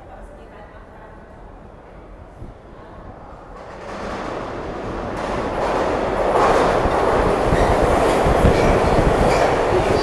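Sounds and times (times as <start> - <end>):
subway train rumbling into station: 0.0 - 10.0.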